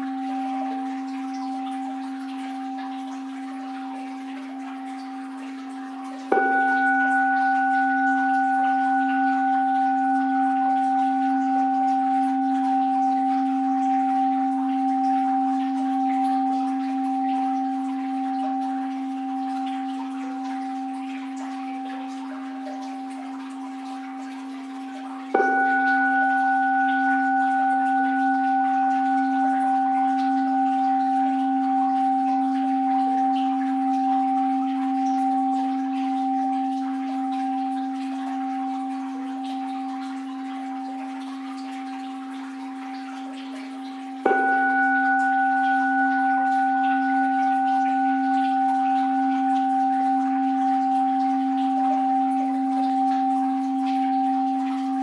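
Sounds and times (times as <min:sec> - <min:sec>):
bowl bell ringing: 0:00.0 - 0:55.0.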